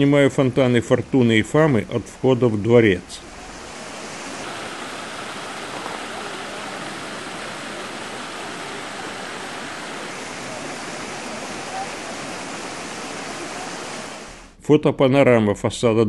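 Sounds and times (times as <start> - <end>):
fountain water splashing: 0.0 - 14.5.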